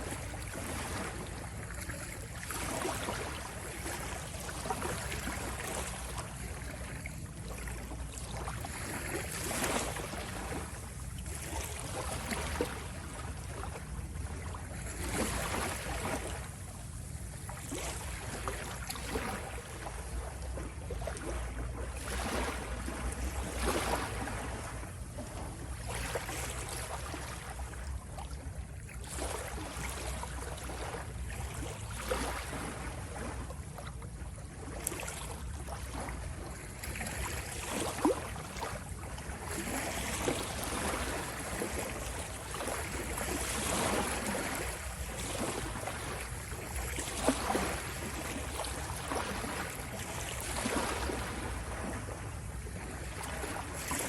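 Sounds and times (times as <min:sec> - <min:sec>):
constant low rumble: 0:00.0 - 0:54.0
waves lapping and splashing: 0:00.0 - 0:54.0.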